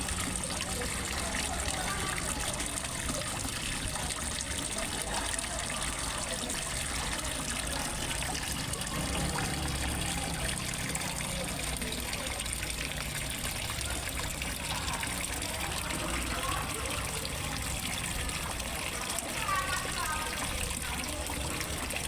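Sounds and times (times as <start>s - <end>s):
small waterfall splashing into pond: 0.0s - 22.0s.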